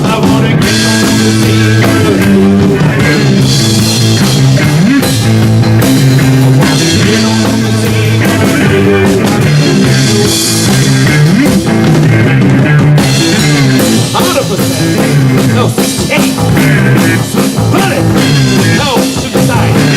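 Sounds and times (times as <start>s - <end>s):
bass guitar: 0.0s - 19.9s
drum kit steady beat: 0.0s - 19.9s
electric guitar: 0.0s - 19.9s.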